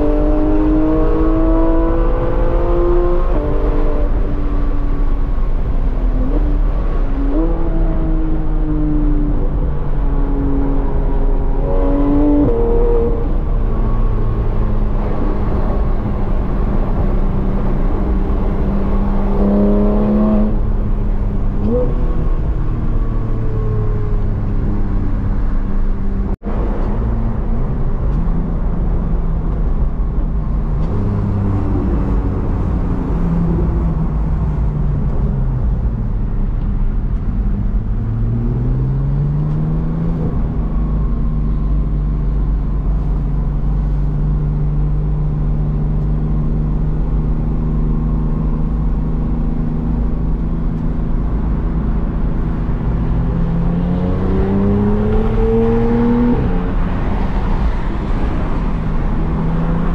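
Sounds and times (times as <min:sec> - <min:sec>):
car engine revving: 0:00.0 - 0:59.9
road and tyre rumble: 0:00.0 - 0:59.9.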